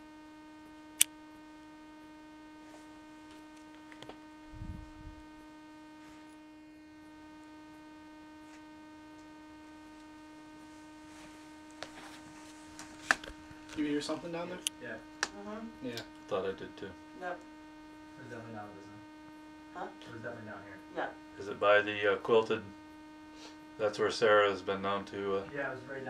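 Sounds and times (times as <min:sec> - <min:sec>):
electrical hum with high whine: 0:00.0 - 0:26.0.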